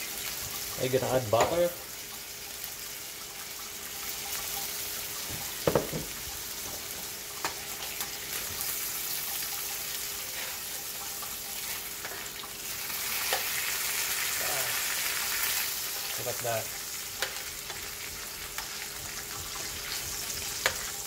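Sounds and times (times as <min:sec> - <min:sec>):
chicken sizzling in frying pan: 0:00.0 - 0:21.0.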